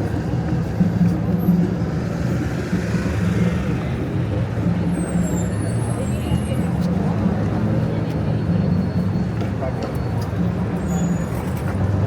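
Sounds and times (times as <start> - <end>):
city traffic roar: 0.0 - 12.0.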